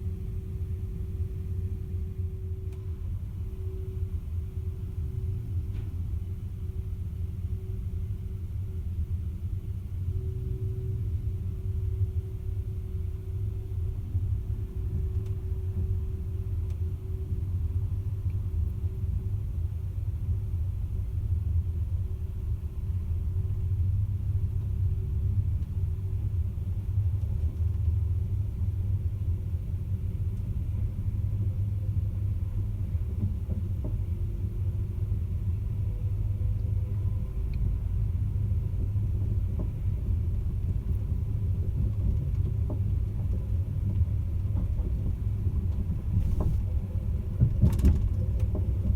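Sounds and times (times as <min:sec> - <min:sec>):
faint steady hum: 0:00.0 - 0:48.9
train rumbling: 0:00.0 - 0:48.9.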